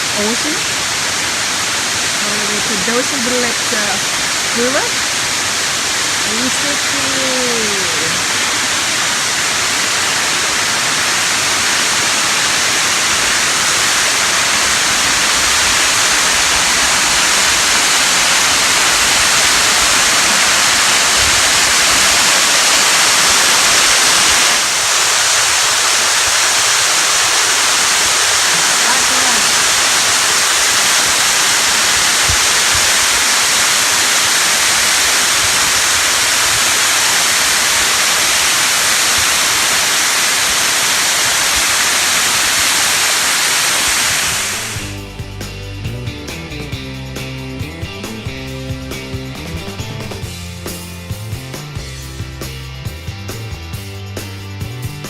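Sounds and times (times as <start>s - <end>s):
waterfall rushing: 0.0s - 45.2s.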